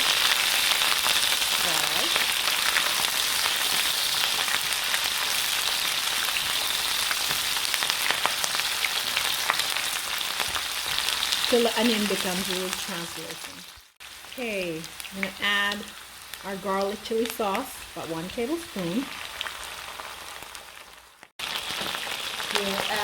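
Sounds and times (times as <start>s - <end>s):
vegetables sizzling in oil: 0.0s - 23.0s.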